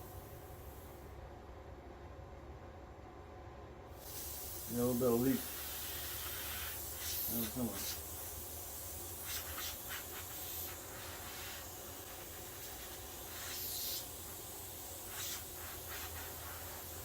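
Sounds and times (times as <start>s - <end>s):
compressed air hissing: 0.0s - 1.0s, 4.0s - 17.0s.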